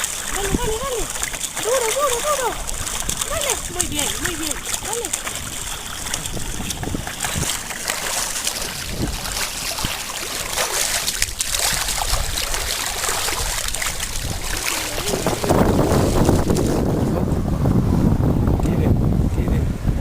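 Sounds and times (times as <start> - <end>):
water trickling along canoe hull: 0.0 - 19.4
wind buffeting microphone: 0.0 - 20.0.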